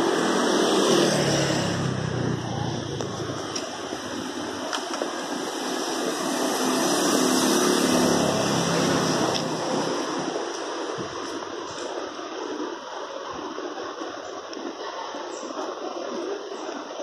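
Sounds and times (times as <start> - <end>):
outdoor noise: 0.0 - 17.0.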